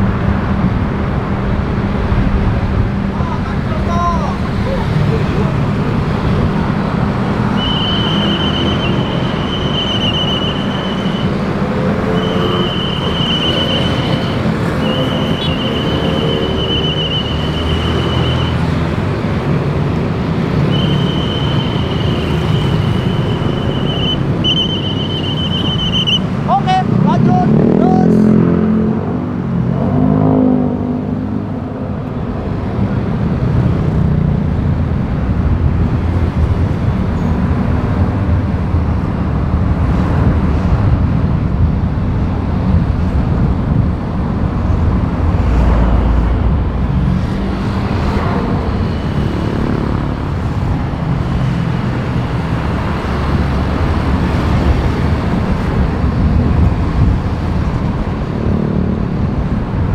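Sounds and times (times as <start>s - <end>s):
road traffic rumble: 0.0s - 59.9s
vehicles passing: 0.0s - 59.9s.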